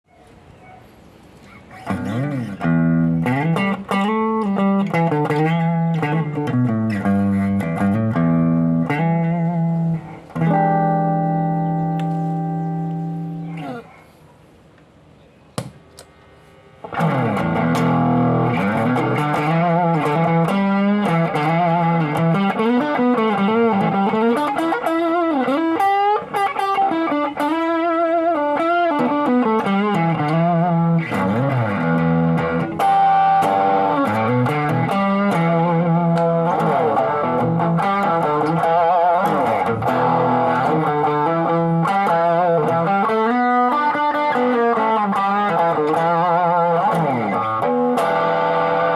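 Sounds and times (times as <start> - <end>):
distorted electric guitar riff: 1.8 - 13.9, 16.8 - 48.9.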